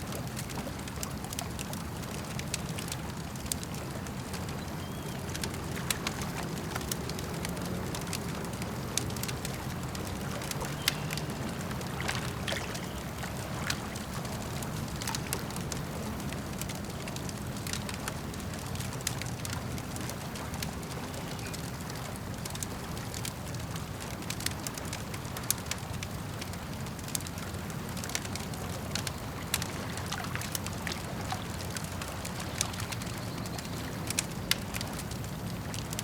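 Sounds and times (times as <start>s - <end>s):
campfire crackling and popping: 0.0s - 36.0s
lake water lapping: 0.0s - 36.0s.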